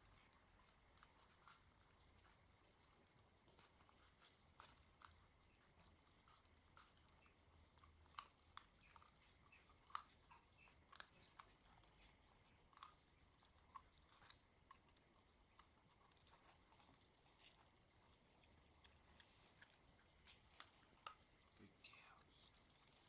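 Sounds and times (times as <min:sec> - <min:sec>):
puppies chewing bones: 0:00.0 - 0:23.0.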